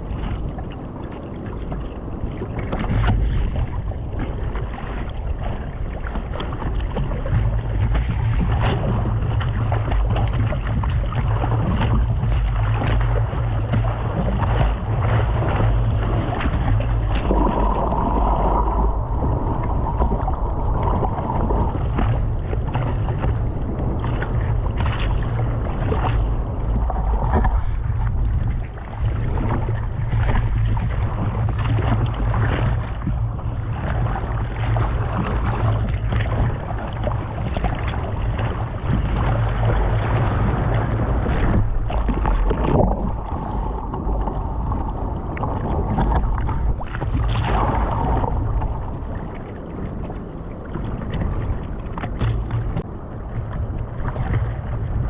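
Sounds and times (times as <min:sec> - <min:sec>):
low engine-like rumble: 0:00.0 - 0:55.0
wind noise on microphone: 0:00.0 - 0:55.0.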